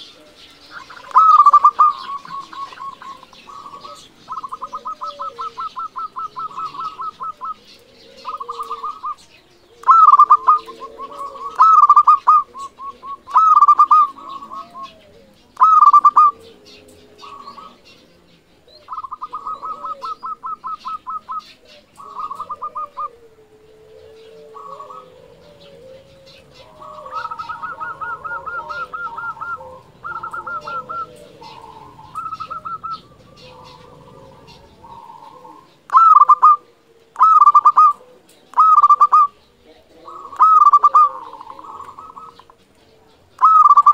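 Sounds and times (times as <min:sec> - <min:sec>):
doves cooing: 0:00.0 - 0:43.9
faint bird chirps: 0:00.0 - 0:43.9.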